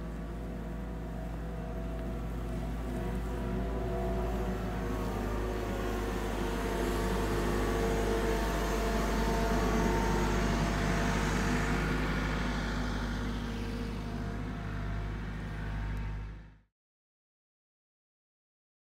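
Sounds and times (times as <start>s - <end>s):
diesel engine idling: 0.0s - 16.6s.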